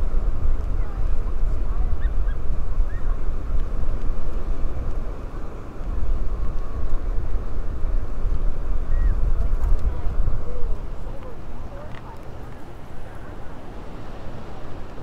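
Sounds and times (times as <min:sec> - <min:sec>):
open sea ambience: 0:00.0 - 0:15.0
wind buffeting microphone: 0:00.0 - 0:15.0.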